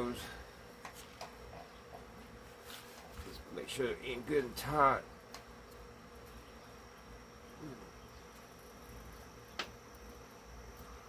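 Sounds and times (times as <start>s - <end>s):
faint buzzing hum: 0.0s - 11.0s.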